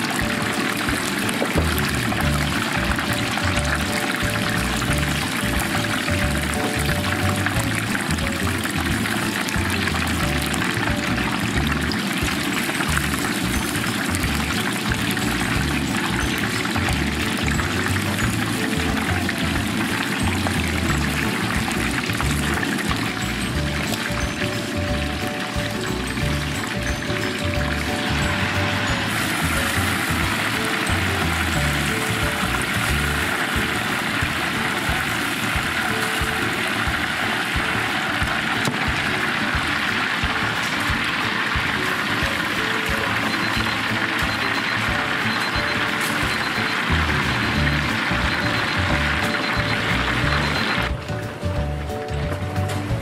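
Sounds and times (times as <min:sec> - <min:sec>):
oil sizzling while deep-frying: 0:00.0 - 0:53.0.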